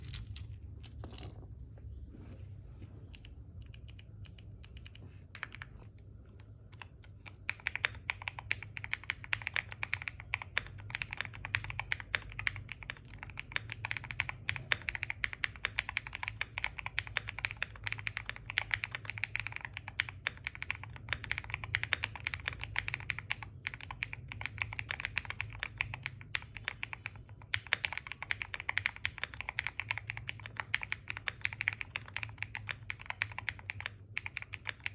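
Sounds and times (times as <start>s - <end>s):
mechanical keyboard typing: 3.1s - 5.7s, 6.4s - 34.9s.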